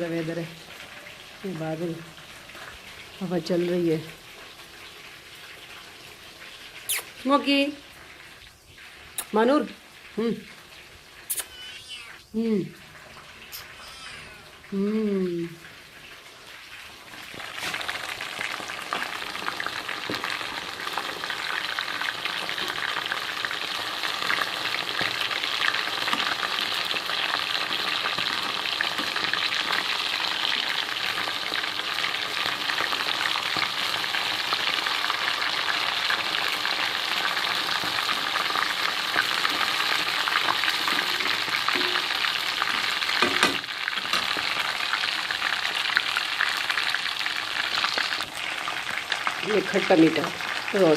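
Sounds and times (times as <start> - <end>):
chicken sizzling in oil: 0.0 - 50.9.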